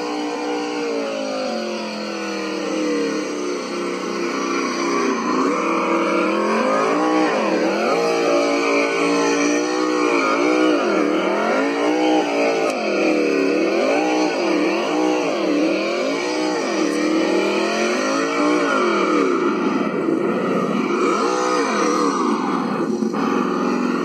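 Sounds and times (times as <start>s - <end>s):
toy truck motor whining: 0.0s - 24.0s.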